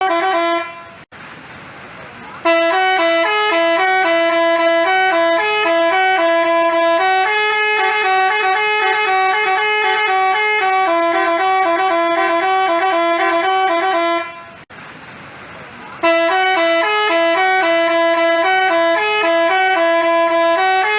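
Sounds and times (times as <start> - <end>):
multi-tone bus horn melody: 0.0 - 1.1, 2.4 - 14.7, 16.0 - 20.9.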